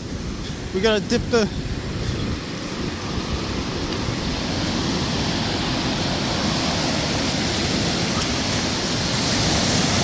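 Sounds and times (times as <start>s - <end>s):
ocean waves breaking: 0.0s - 10.0s.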